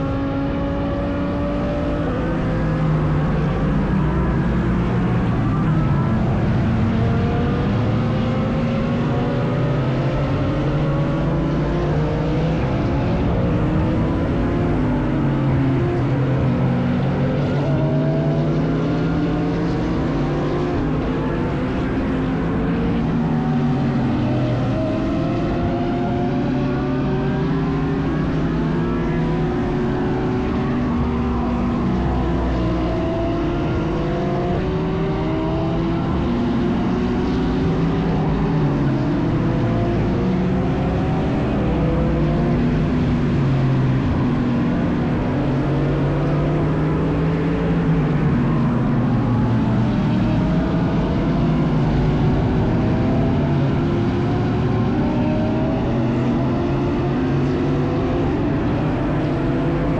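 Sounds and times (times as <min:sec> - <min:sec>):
race car engines at speed: 0:00.0 - 0:59.9.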